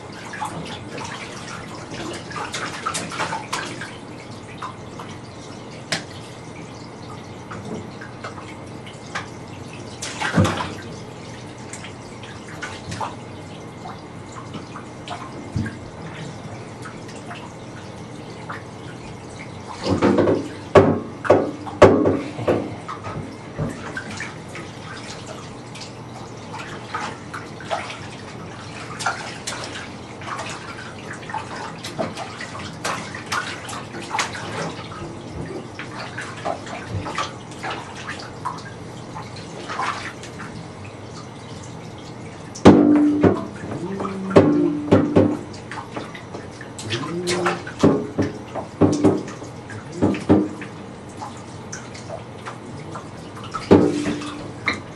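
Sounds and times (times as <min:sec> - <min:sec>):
bathwater splashing: 0:00.0 - 0:54.9.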